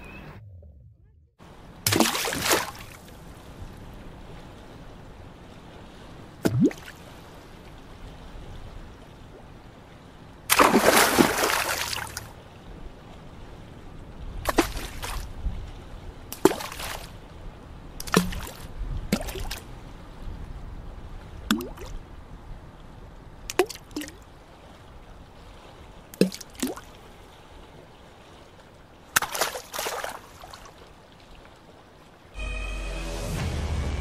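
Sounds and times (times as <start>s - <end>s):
water splashing on lake: 1.4s - 32.4s.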